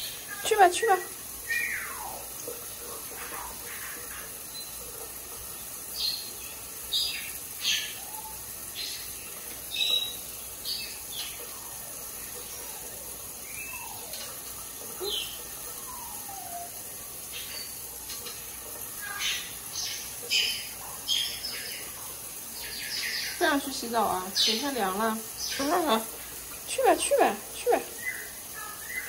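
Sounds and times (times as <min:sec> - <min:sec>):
parrots chirping and calling: 0:00.0 - 0:29.0
shower running: 0:00.0 - 0:29.0.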